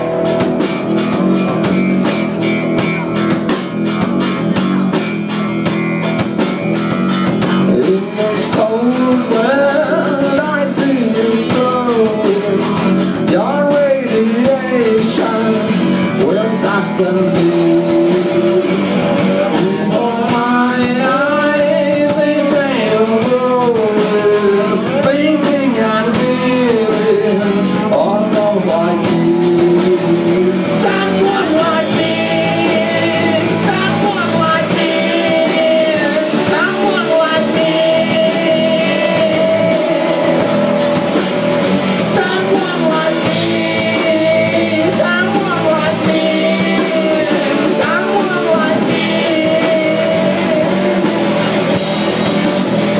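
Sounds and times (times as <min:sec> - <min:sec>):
bass guitar: 0:00.0 - 0:52.9
drum kit with cymbals: 0:00.0 - 0:52.9
electric guitars: 0:00.0 - 0:52.9.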